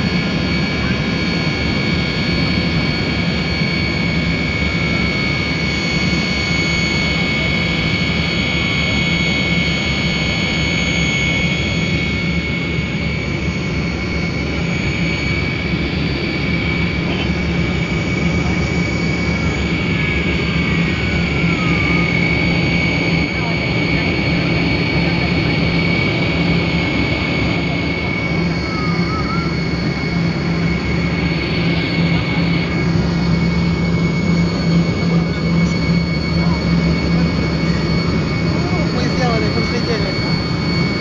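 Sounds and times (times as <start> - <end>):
jet engine drone in cabin: 0.0 - 41.0.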